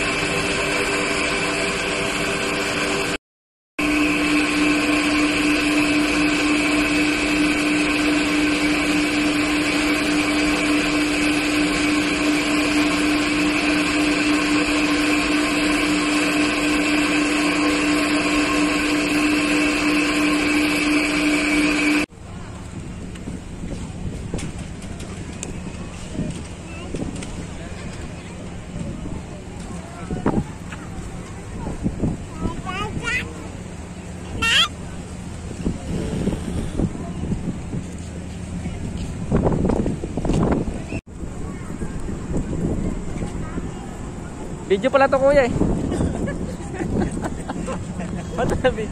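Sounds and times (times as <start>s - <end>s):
machine hum and whir: 0.0s - 3.2s, 3.8s - 48.9s.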